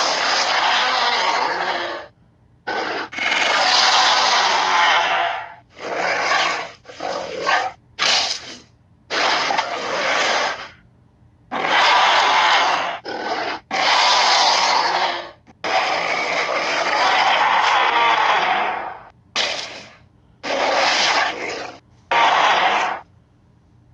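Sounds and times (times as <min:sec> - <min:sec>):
raspy growls and roars: 0:00.0 - 0:02.1, 0:02.7 - 0:10.8, 0:11.5 - 0:23.0.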